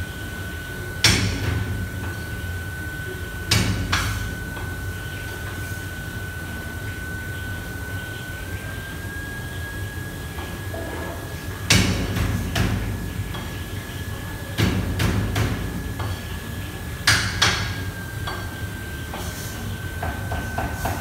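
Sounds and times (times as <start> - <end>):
kitchen extraction fan hum: 0.0 - 21.0
thin steady whine: 0.0 - 21.0.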